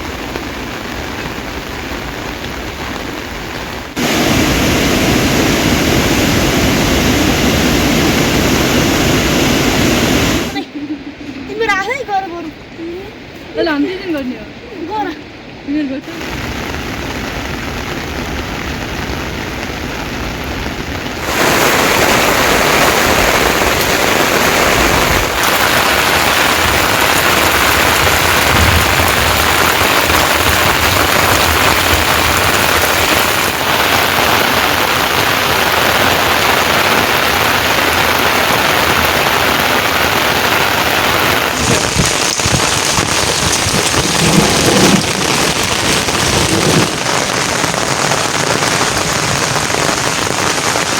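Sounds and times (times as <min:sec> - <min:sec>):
heavy rain hissing: 0:00.0 - 0:50.9.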